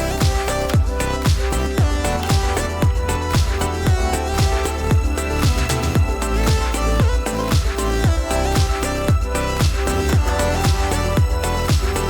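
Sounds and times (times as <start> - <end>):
electronic kick drum: 0.0 - 12.0.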